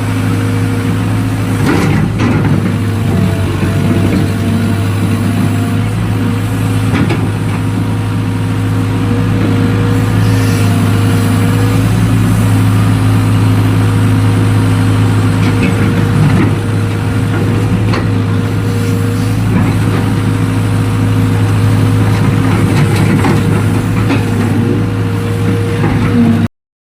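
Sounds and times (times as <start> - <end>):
excavator engine running: 0.0 - 26.5.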